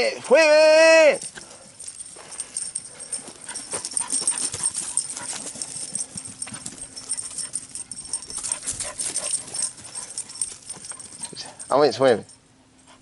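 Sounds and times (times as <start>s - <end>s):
paws scuffing on dirt and leaves: 1.2s - 11.7s.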